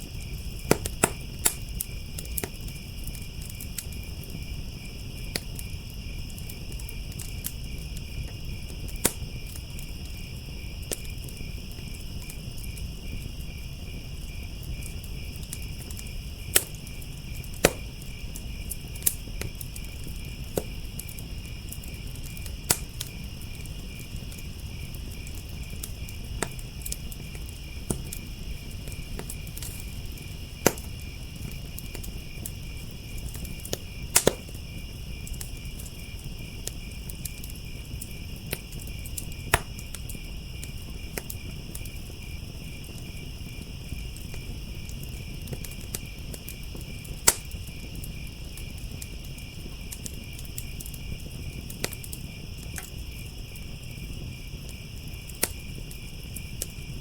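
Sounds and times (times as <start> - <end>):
crickets chirping: 0.0 - 57.0
low rumble of flames: 0.0 - 57.0
wood fire crackling and popping: 0.0 - 57.0.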